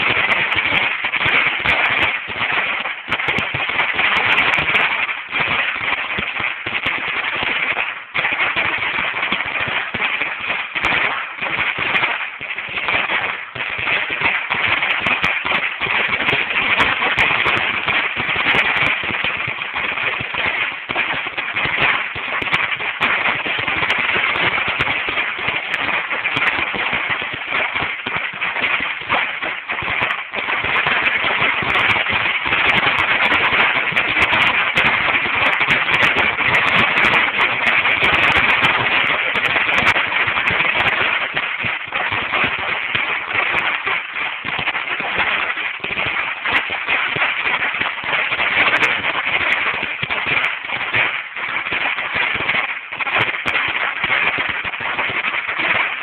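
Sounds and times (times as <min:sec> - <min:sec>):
firecracker strip rattling bangs: 0:00.0 - 0:56.0.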